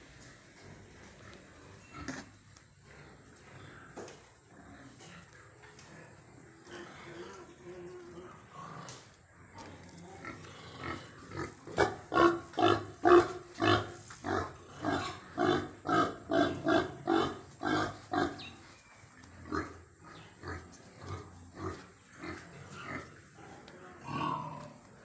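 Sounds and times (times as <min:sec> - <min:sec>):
pig grunting: 0:01.4 - 0:25.0.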